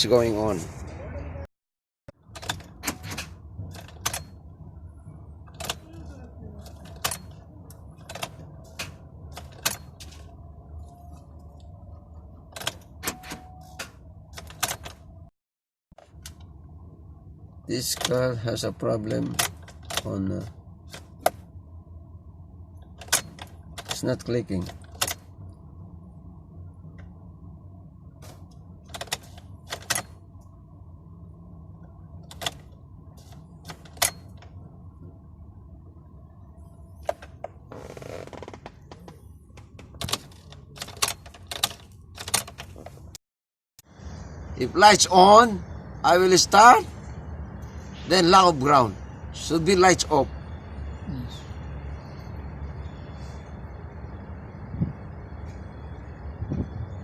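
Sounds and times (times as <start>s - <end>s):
steady low hum: 2.2s - 15.3s, 16.0s - 43.2s, 43.8s - 57.0s.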